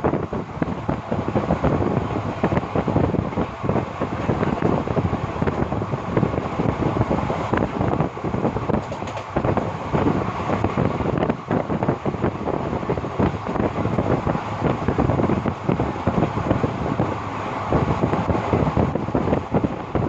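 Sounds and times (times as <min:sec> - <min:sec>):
train rumbling and clattering: 0:00.0 - 0:20.0
wind buffeting microphone: 0:00.0 - 0:20.0.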